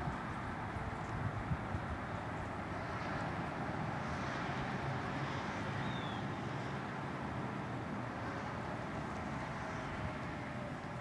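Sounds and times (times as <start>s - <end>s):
street noise: 0.0s - 11.0s
wind: 0.0s - 11.0s.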